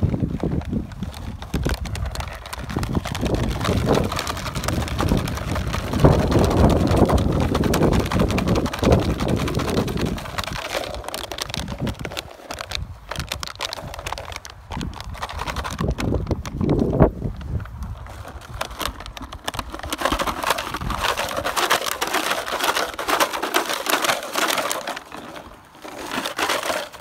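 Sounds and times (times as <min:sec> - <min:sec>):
puppies chewing toys: 0:00.0 - 0:27.0
wind rumbling on microphone: 0:00.0 - 0:27.0.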